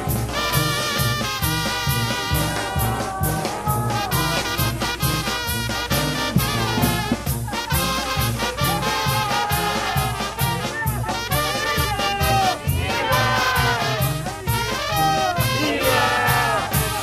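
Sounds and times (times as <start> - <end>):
brass band music: 0.0 - 17.0.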